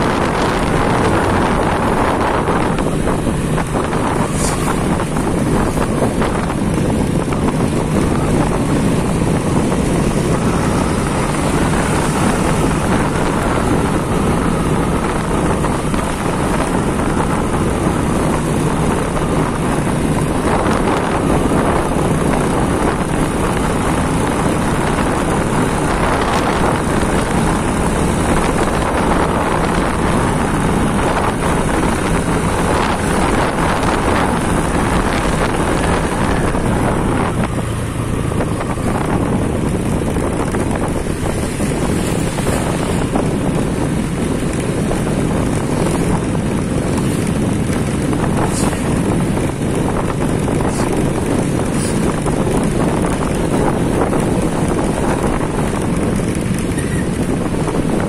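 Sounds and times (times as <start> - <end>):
vehicle engine and road noise: 0.0 - 58.0
wind rushing over microphone: 0.0 - 58.0.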